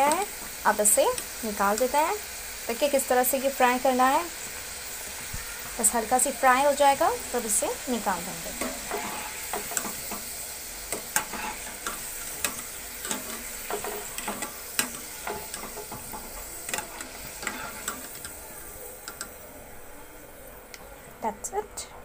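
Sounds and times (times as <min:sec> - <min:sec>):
fries sizzling in hot oil: 0:00.0 - 0:21.8.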